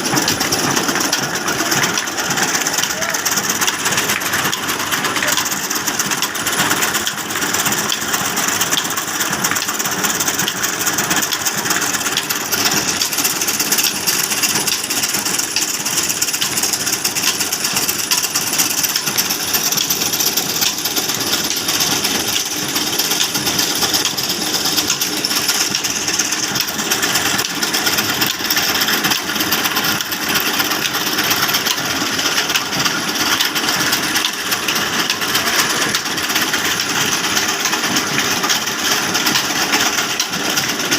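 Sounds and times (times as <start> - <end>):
diesel engine clattering: 0.0 - 40.9.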